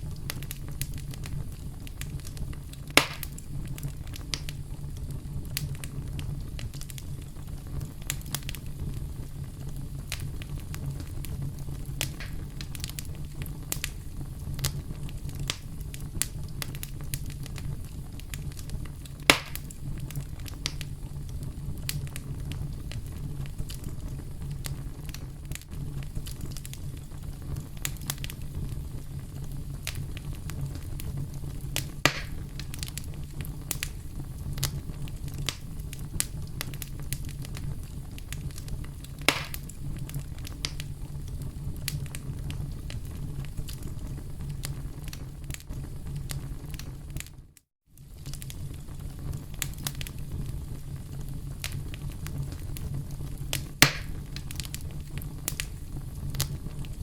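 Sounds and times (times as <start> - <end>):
campfire crackling: 0.0 - 57.0
loud fire pops: 0.0 - 57.0.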